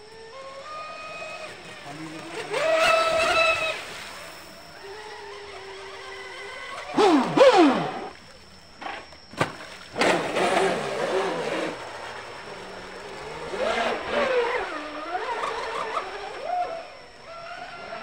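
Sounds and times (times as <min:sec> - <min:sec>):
rc boat electric motor whining: 0:00.0 - 0:18.0.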